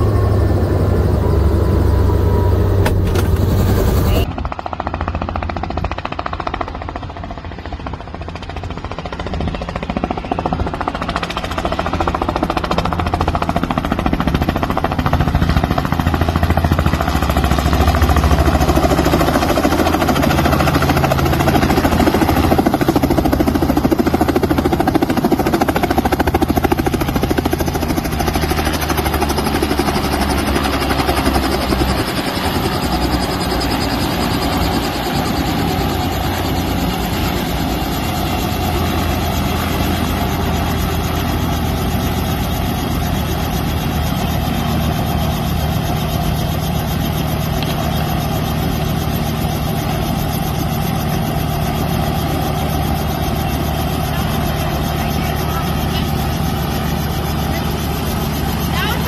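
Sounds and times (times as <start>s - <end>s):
helicopter rotor beating: 0.0s - 59.0s.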